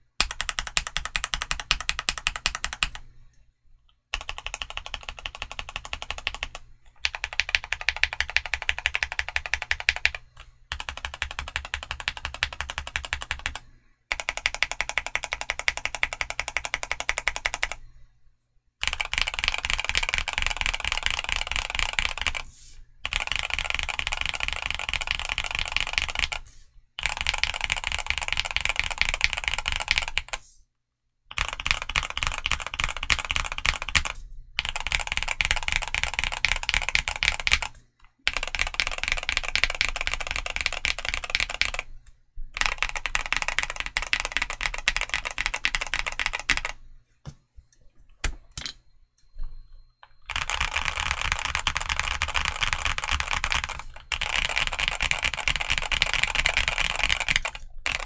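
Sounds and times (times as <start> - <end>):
mechanical keyboard typing: 0.2 - 3.0, 4.1 - 17.8, 18.8 - 26.4, 27.0 - 30.4, 31.3 - 41.9, 42.6 - 46.8, 50.0 - 58.0.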